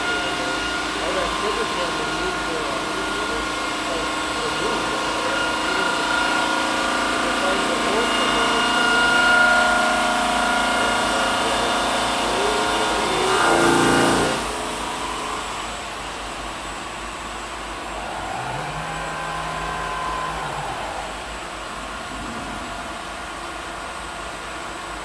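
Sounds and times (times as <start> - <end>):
stone saw machine running: 0.0 - 25.0.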